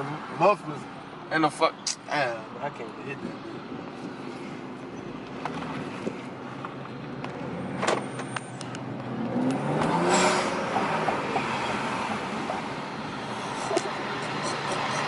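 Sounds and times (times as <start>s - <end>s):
car engine and exhaust while driving: 0.0s - 15.0s.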